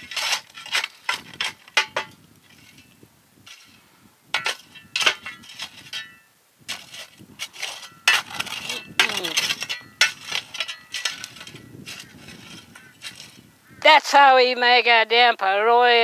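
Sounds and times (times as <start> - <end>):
coals clinking and rattling: 0.0 - 13.5
metal shovel scraping charcoal: 0.0 - 13.5.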